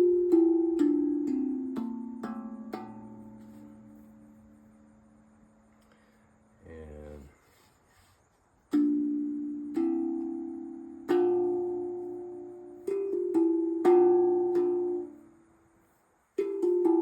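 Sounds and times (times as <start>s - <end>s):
tongue drum notes ringing: 0.0s - 6.0s, 8.7s - 17.0s.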